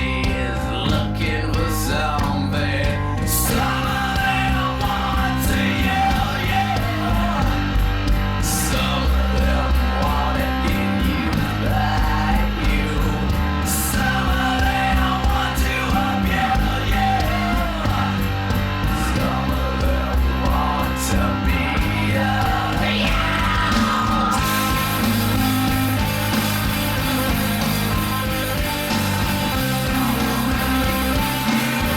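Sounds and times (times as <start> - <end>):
rock song with singing: 0.0 - 31.9.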